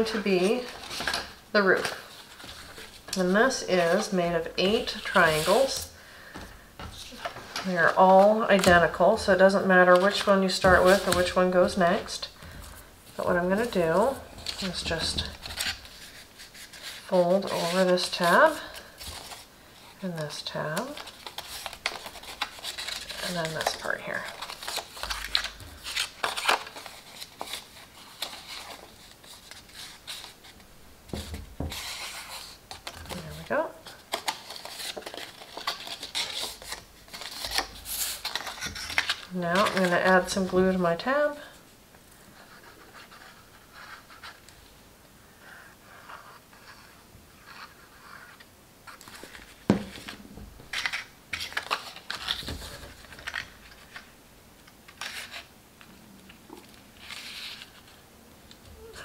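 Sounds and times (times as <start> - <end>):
cardstock rustling and crinkling: 0.0 - 41.6, 45.5 - 54.1, 54.7 - 59.0.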